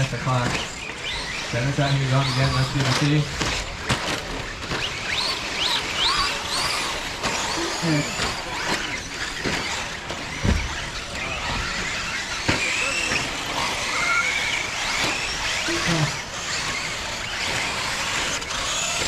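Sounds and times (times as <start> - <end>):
rc car motor whine: 0.0 - 19.0
sharp thumps: 0.0 - 19.0.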